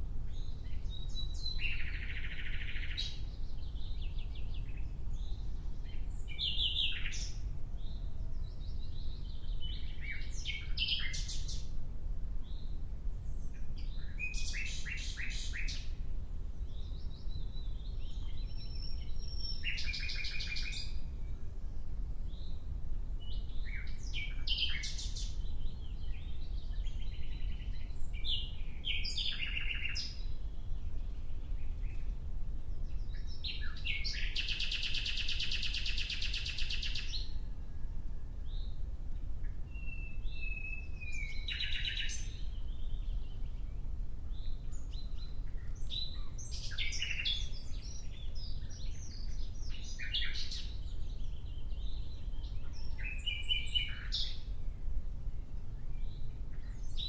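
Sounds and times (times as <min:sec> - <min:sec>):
nightingale singing: 0:00.0 - 0:11.8, 0:12.4 - 0:16.0, 0:16.6 - 0:21.5, 0:23.2 - 0:37.5, 0:39.4 - 0:54.6.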